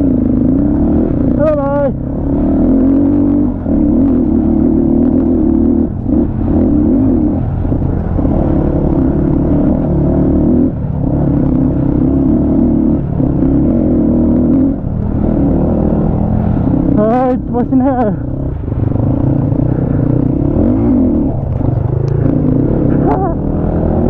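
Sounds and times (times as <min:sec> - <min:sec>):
motorcycle engine running loudly: 0:00.0 - 0:24.0.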